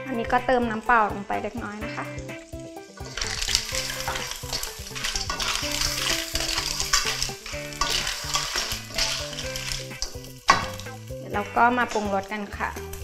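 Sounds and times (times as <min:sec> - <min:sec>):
pan sizzling: 0:00.0 - 0:13.0
spatula turning clams in wok: 0:01.9 - 0:13.0.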